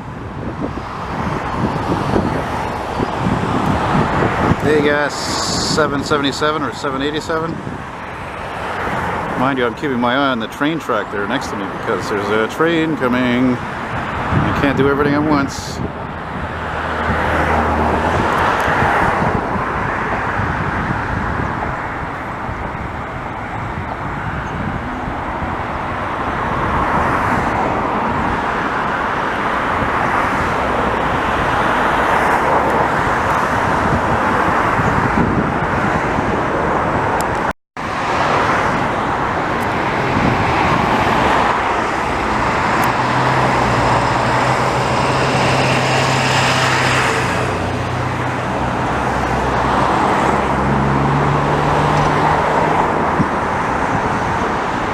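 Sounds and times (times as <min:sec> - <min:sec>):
road traffic hiss: 0:00.0 - 0:54.9.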